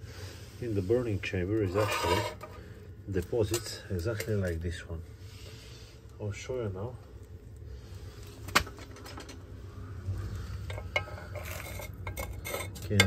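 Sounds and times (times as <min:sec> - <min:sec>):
tool scraping carbon deposits: 0:00.0 - 0:08.6, 0:09.8 - 0:13.0.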